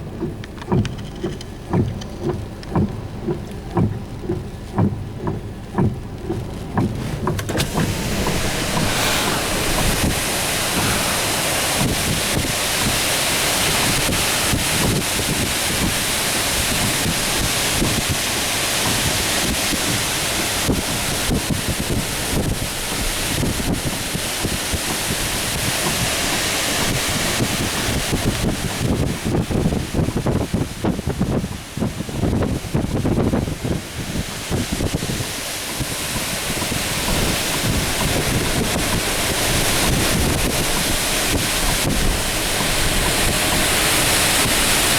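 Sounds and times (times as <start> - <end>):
wind buffeting microphone: 0.0 - 44.9
wind rushing through trees: 6.9 - 44.9.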